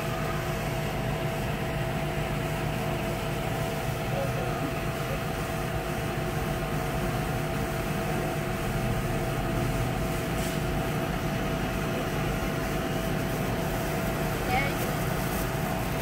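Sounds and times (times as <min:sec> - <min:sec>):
air conditioning blowing: 0:00.0 - 0:16.0
car idling: 0:00.0 - 0:16.0.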